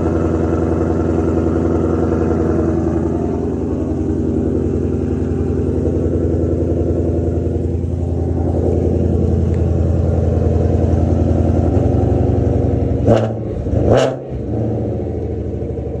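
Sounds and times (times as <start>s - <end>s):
car engine idling: 0.0s - 16.0s
engine throttle blips: 0.0s - 16.0s.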